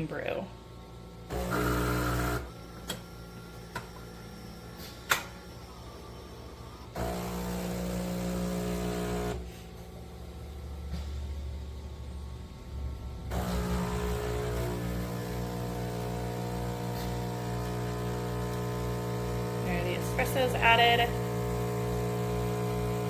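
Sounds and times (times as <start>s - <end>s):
espresso machine motor hum: 0.7s - 23.0s.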